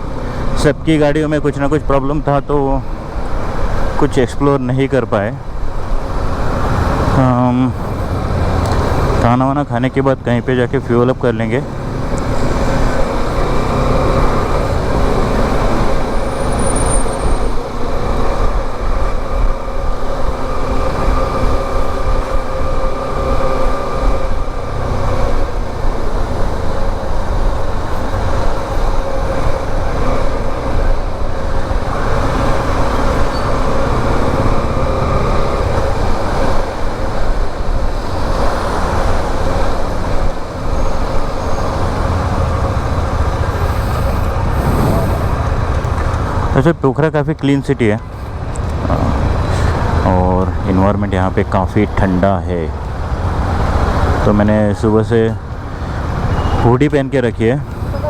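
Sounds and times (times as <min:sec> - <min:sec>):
motorcycle engine drone: 0:00.0 - 0:58.0
wind rumble: 0:00.0 - 0:58.0.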